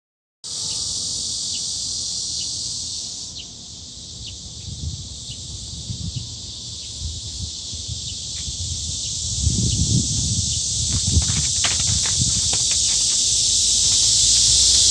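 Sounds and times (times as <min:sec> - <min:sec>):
cicadas buzzing: 0:00.5 - 0:14.9.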